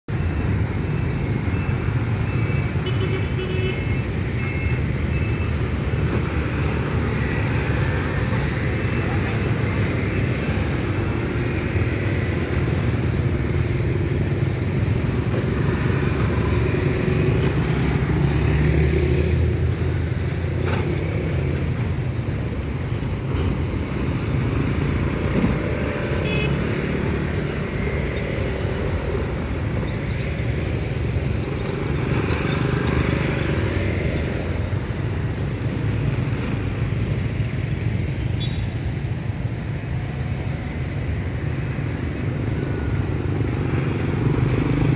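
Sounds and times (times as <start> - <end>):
scooters and cars passing: 0.1 - 44.9.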